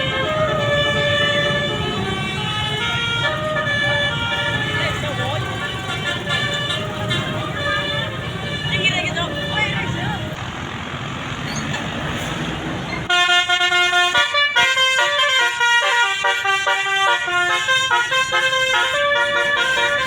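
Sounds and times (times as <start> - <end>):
musical bus air horn: 0.0 - 10.4, 13.1 - 20.0
road traffic noise: 0.0 - 20.0.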